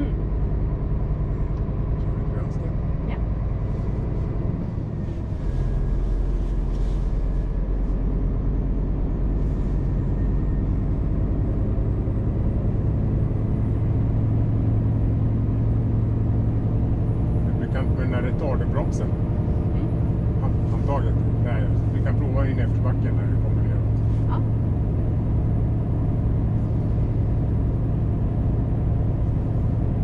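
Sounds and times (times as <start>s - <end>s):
truck engine drone: 0.0s - 30.0s.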